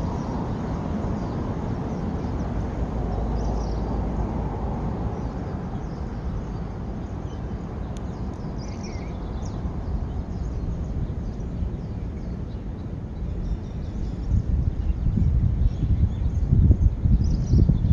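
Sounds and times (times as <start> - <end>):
low outdoor rumble: 0.0 - 17.9.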